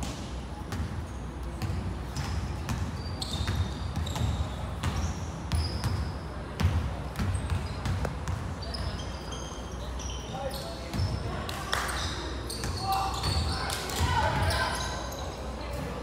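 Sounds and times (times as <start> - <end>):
sneakers squeaking on floor: 0.1 - 16.0.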